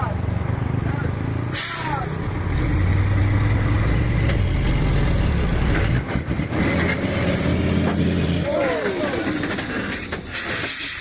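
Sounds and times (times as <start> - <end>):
diesel truck engine under load: 1.4 - 11.0.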